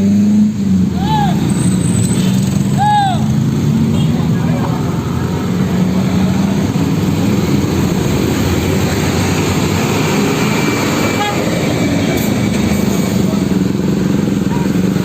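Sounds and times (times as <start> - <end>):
heavy vehicle rumble: 0.0 - 15.0.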